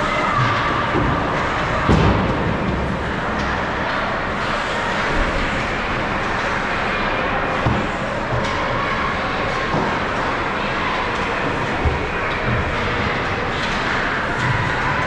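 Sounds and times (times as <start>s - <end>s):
ice rink noise: 0.0s - 15.0s.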